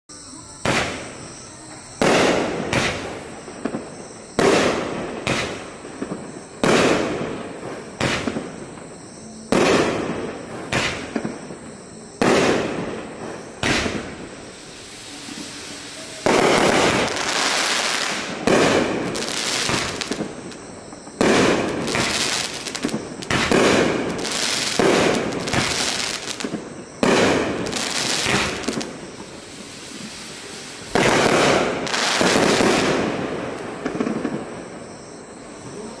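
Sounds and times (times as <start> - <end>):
firework bangs with crackle: 0.6 - 35.6.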